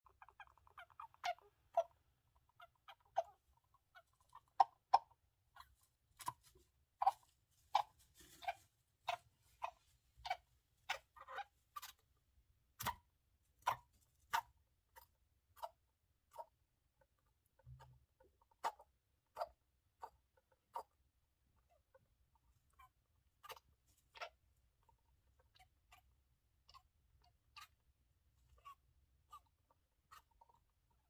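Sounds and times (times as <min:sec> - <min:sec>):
hamster squeaking: 0:00.0 - 0:12.1, 0:12.8 - 0:31.0.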